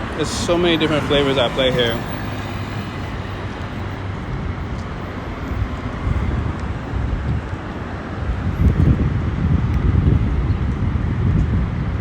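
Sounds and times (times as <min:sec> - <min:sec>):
passing traffic: 0:00.0 - 0:12.0
wind rumbling on microphone: 0:00.0 - 0:12.0.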